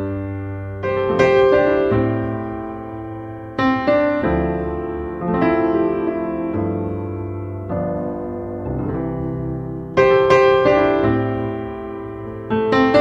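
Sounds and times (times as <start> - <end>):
background piano music: 0.0 - 13.0.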